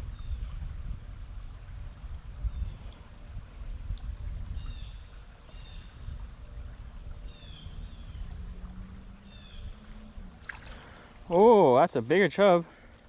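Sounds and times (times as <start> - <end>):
faint steady hum: 0.0 - 13.0
moving water: 0.0 - 13.0
wind: 0.0 - 13.0.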